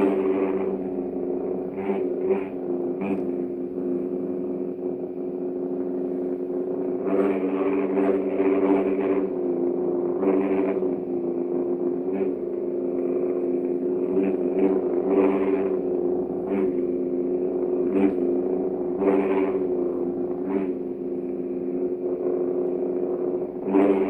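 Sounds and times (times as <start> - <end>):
lightsaber hum: 0.0 - 24.0.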